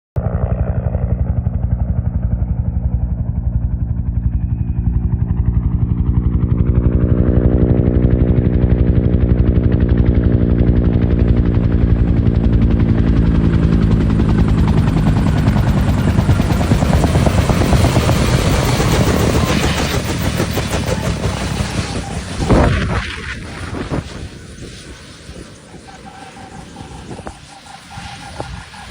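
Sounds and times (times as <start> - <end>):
helicopter rotor chopping: 0.2 - 28.9.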